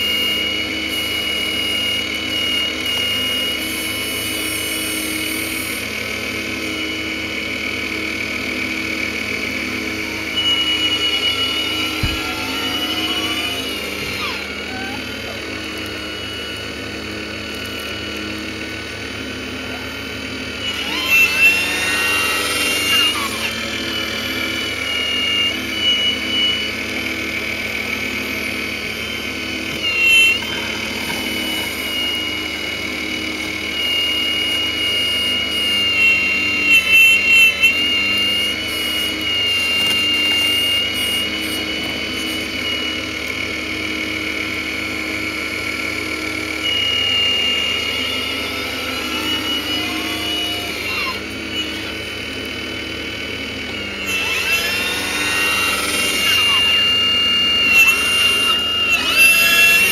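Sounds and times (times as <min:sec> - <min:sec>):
hydraulic pump whine: 0:00.0 - 0:59.9.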